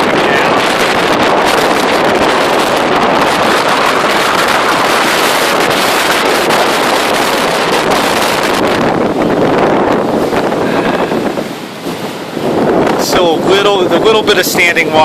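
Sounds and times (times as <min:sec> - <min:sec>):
river rushing: 0:00.0 - 0:15.0
wind blowing on microphone: 0:00.0 - 0:15.0.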